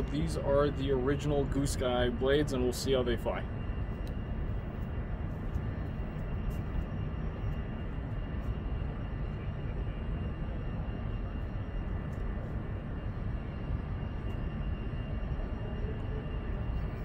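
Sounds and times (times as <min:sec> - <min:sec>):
faint steady high tones: 0:00.0 - 0:17.0
low rumble and hiss of sports hall: 0:00.0 - 0:17.0.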